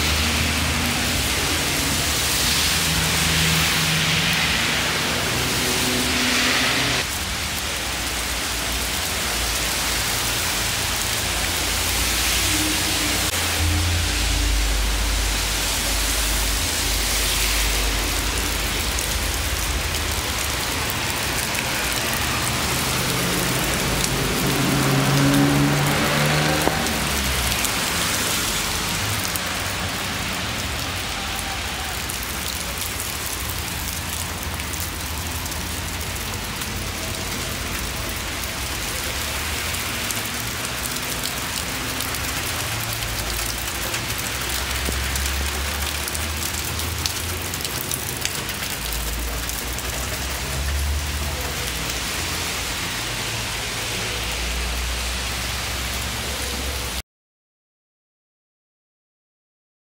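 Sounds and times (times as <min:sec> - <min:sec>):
passing vehicle engine hum: 0:00.0 - 0:07.2, 0:10.2 - 0:56.9
rain splashing on pavement: 0:00.0 - 0:57.0.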